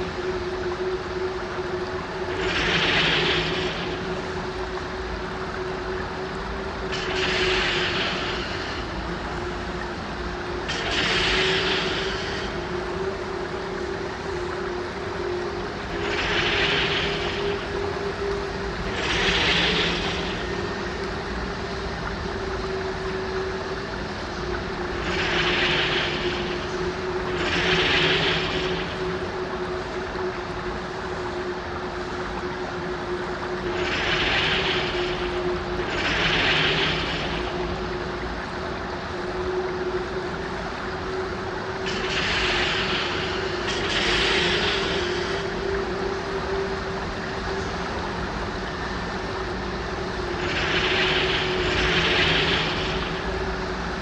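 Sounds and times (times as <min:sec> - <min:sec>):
low droning hum: 0:00.0 - 0:54.0.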